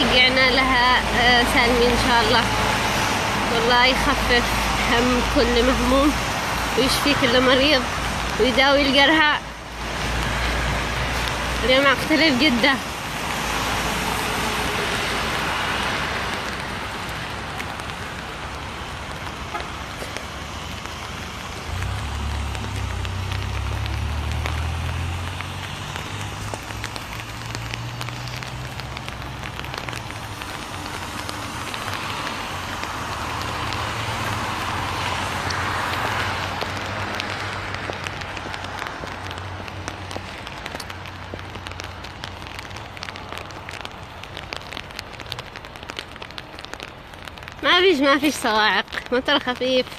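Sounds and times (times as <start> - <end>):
light rain falling: 0.0 - 49.9.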